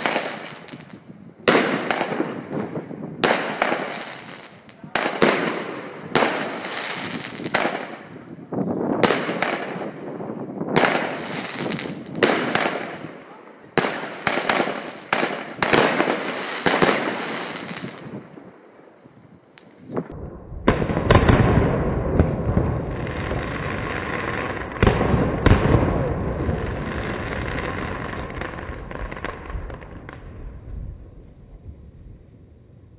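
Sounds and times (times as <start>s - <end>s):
fireworks bangs and crackling: 0.0s - 31.8s.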